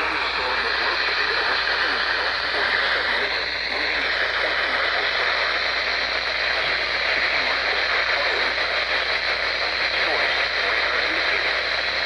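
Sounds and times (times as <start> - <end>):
faint broadcast voice: 0.0 - 12.0
radio static hiss: 0.0 - 12.0.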